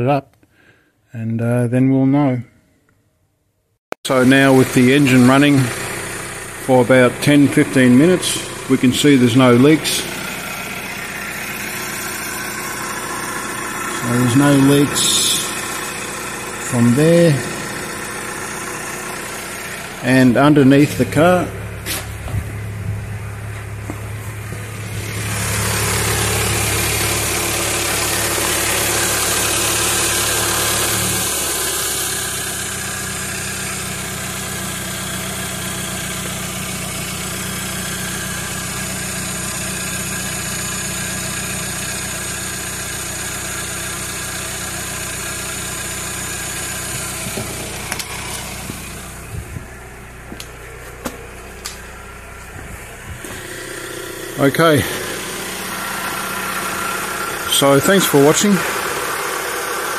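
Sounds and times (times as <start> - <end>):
car engine idling: 4.1 - 59.9.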